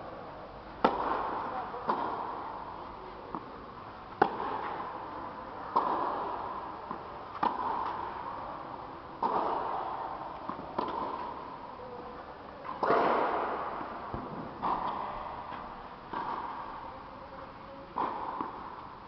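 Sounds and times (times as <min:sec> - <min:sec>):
tennis ball bouncing: 0:00.7 - 0:17.0, 0:17.9 - 0:19.0
tennis racket hitting ball: 0:00.8 - 0:16.8, 0:17.9 - 0:18.9.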